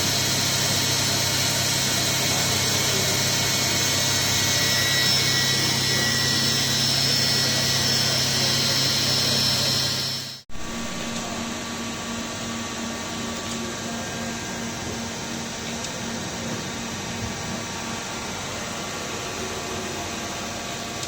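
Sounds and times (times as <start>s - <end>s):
machining center running: 0.0s - 21.0s.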